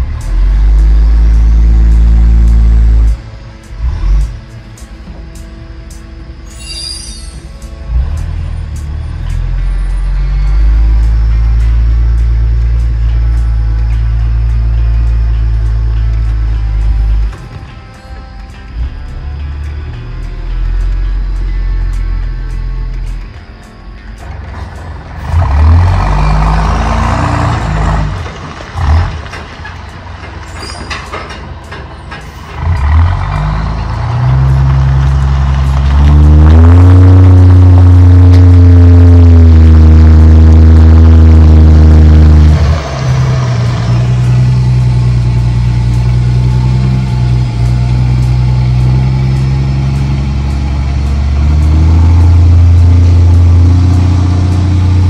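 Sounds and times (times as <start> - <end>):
truck diesel engine rumble: 0.0 - 55.0.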